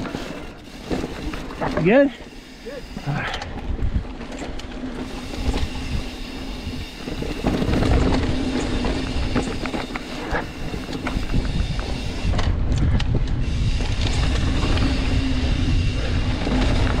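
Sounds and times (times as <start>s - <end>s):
bike rattling clicks and knocks: 0.0s - 17.0s
mountain bike rolling on dirt: 0.0s - 17.0s.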